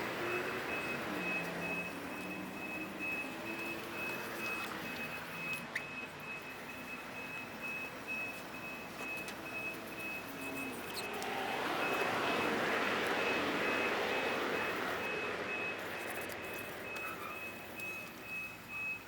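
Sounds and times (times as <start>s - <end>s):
low engine hum: 0.0s - 19.0s
reversing alarm beeping: 0.0s - 19.0s
traffic: 0.0s - 19.0s.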